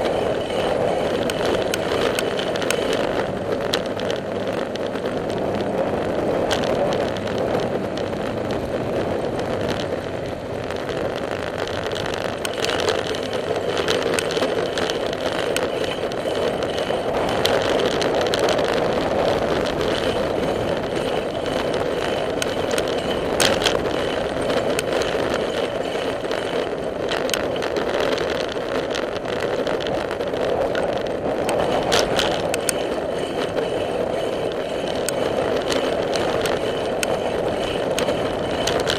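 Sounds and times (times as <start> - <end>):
bicycle tyre noise on pavement: 0.0 - 38.9
bike clicks and rattles: 0.0 - 38.9
wind rushing: 0.0 - 38.9.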